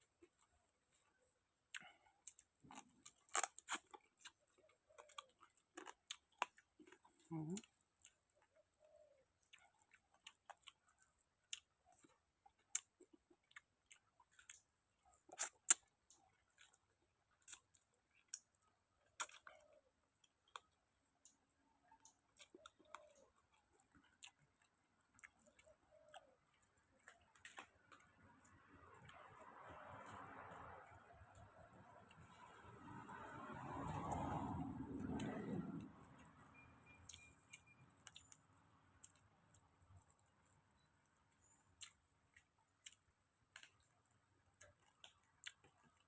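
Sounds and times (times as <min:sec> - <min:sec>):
person chewing food: 0:00.0 - 0:46.0.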